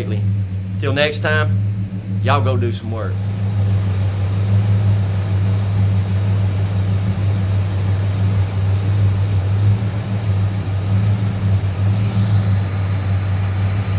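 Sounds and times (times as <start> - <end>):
truck engine idling: 0.0 - 13.9.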